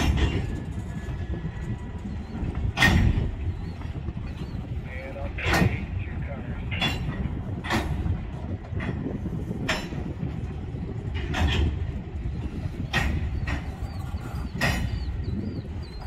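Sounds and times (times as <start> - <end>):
train wheels rumbling on rail: 0.0 - 16.0
wheel clacks: 0.0 - 16.0.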